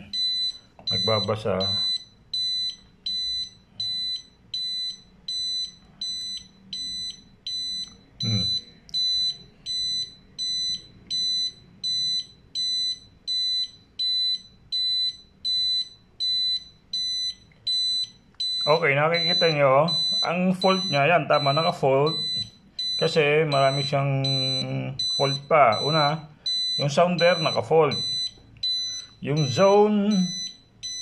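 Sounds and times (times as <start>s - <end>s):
alarm panel buzzer beeping: 0.0s - 31.0s.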